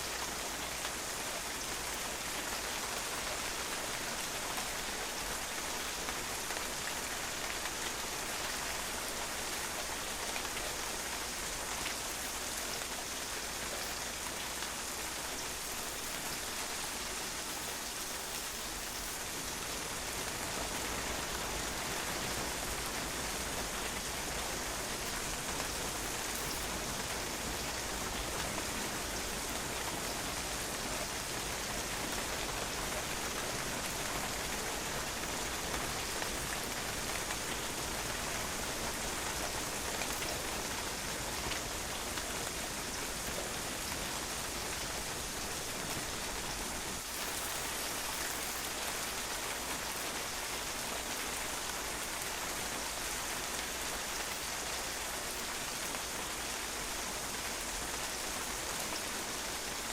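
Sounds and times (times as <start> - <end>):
rain on a patio: 0.0 - 59.9.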